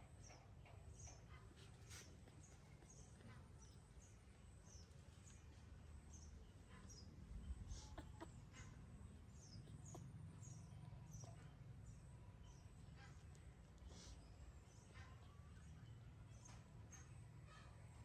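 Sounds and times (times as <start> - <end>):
low outdoor rumble: 0.0 - 18.0
small bird chirping: 0.0 - 18.0.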